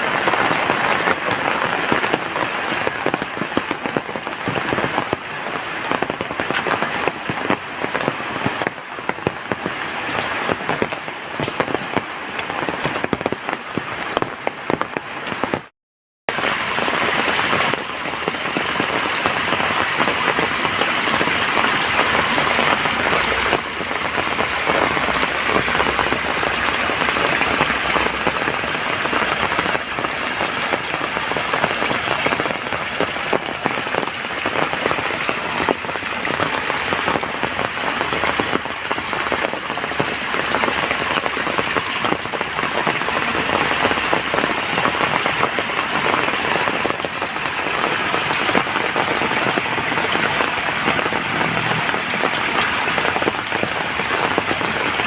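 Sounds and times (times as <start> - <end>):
heavy rain falling: 0.0 - 15.7, 16.3 - 55.0.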